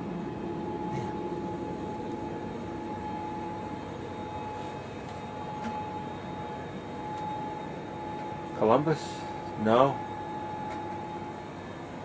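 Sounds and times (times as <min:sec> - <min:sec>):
constant mid-pitched tone: 0:00.0 - 0:12.0
ventilation fans humming: 0:00.0 - 0:12.0.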